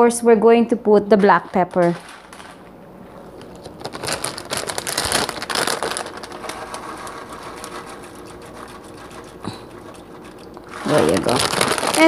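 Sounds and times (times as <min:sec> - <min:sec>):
peppercorns rattling into pot: 0:01.0 - 0:02.7, 0:03.4 - 0:12.0.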